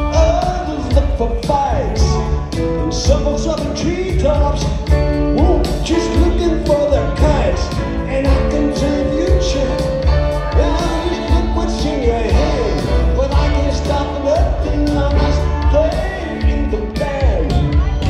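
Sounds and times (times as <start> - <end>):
steady drum beat: 0.0 - 18.0
upright bass: 0.0 - 18.0.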